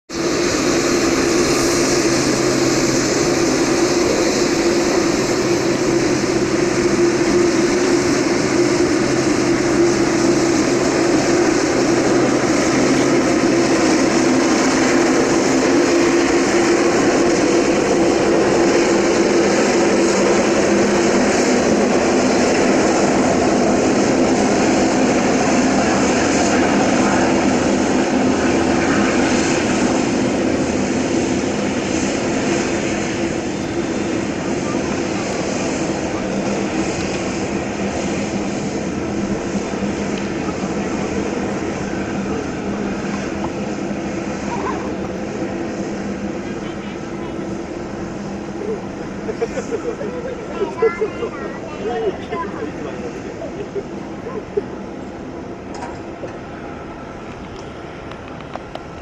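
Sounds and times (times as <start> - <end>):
jet engines humming: 0.1 - 59.0.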